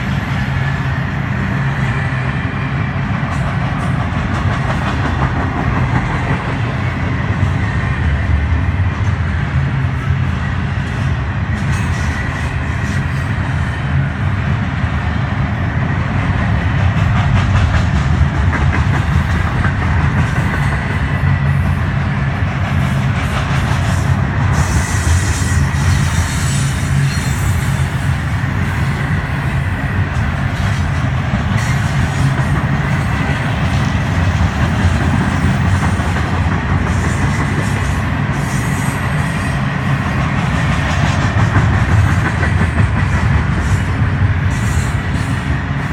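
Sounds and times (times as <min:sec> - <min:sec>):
clickety-clack over rail joints: 0:00.0 - 0:45.9
train wheels rumbling on rails: 0:00.0 - 0:45.9.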